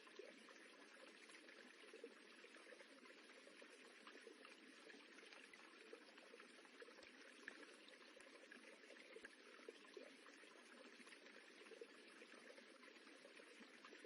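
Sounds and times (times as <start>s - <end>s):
running water rippling: 0.0s - 14.0s.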